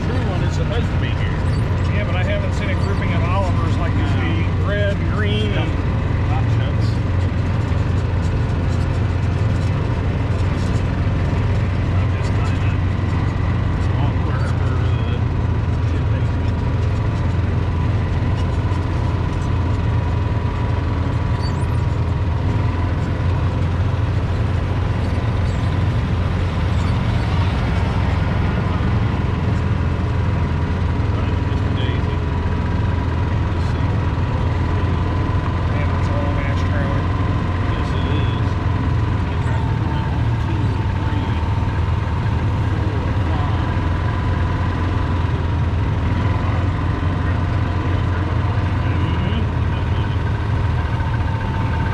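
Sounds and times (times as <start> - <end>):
faint constant whine: 0.0 - 51.9
vehicle engine droning: 0.0 - 51.9.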